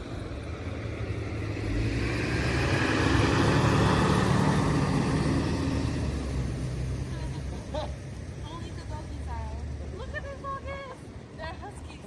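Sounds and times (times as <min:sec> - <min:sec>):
road vehicle driving past: 0:00.0 - 0:10.4.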